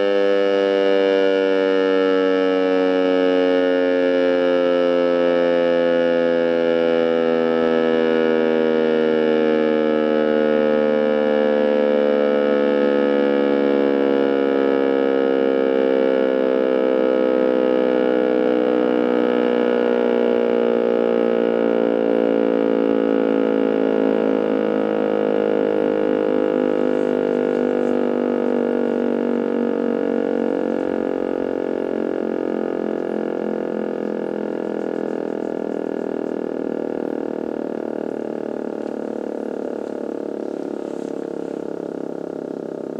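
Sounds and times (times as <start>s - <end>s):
siren winding down: 0.0s - 42.9s.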